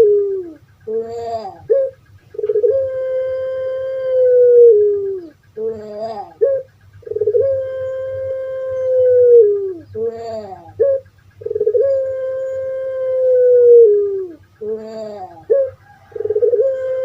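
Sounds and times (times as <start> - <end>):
dove singing long call: 0.0 - 17.0.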